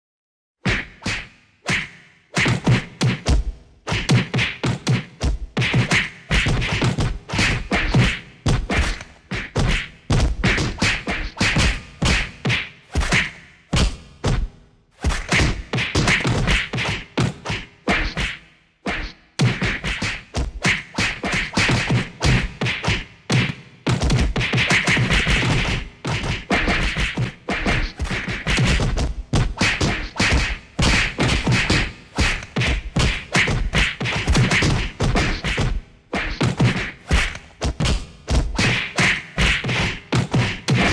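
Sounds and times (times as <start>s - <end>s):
punch and body-hit thuds: 2.4s - 18.4s, 19.4s - 40.9s.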